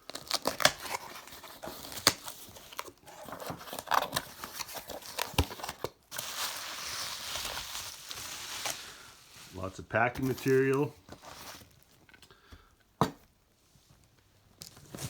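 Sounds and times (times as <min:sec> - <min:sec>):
cardboard and packing rustling: 0:00.0 - 0:12.3, 0:13.0 - 0:15.0.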